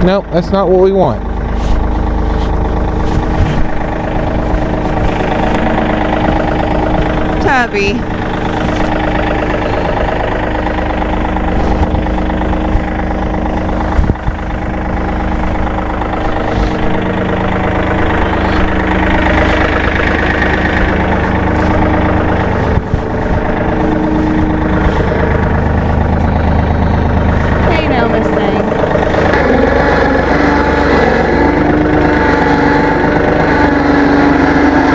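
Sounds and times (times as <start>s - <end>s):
vehicle engine idling: 0.0s - 34.9s.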